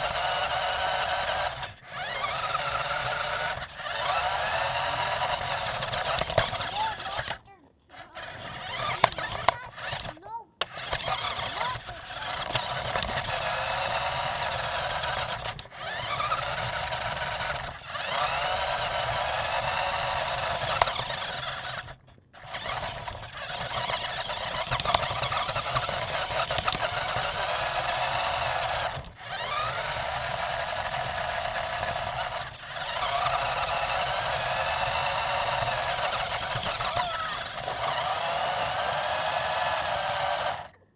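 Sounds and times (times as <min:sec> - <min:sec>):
toy truck electric motor whining: 0:00.0 - 0:40.9.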